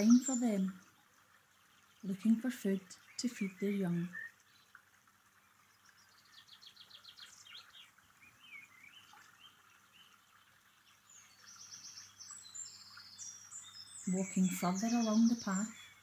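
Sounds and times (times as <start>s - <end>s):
birdsong chirps and trills: 0.0s - 16.0s.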